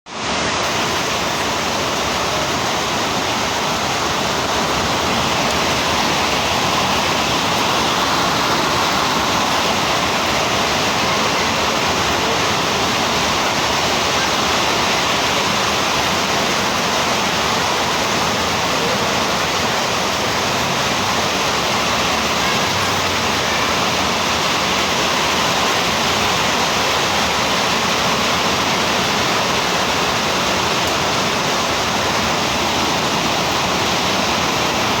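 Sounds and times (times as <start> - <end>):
heavy rain pouring: 0.1 - 35.0.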